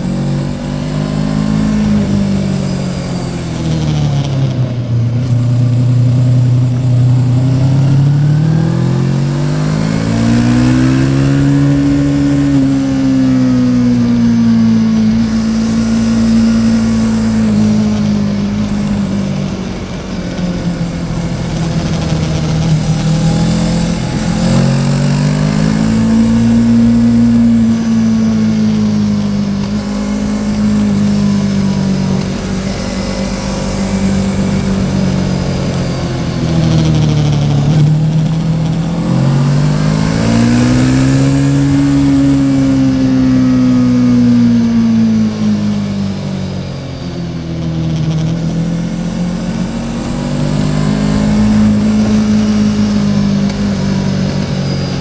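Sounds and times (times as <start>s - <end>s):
motorcycle engine revving: 0.0s - 55.0s
steady rushing noise: 0.0s - 55.0s.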